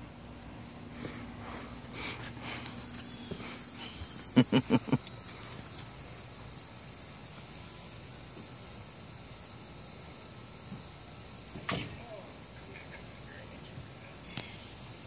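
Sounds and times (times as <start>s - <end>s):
high-pitched insect drone: 1.4s - 15.0s.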